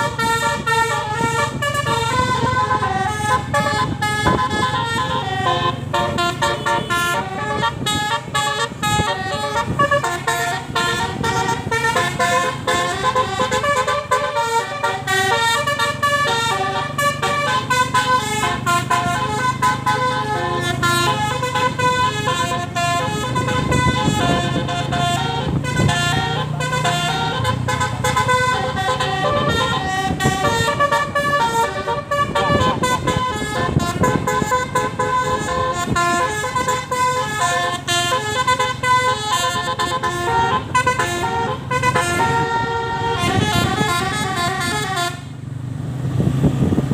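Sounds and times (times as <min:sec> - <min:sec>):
multi-tone air horn melody: 0:00.0 - 0:45.4
bus engine humming: 0:00.0 - 0:46.9.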